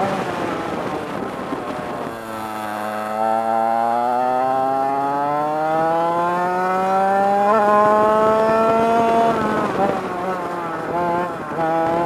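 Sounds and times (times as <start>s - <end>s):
kart engine accelerating: 0.0s - 12.0s.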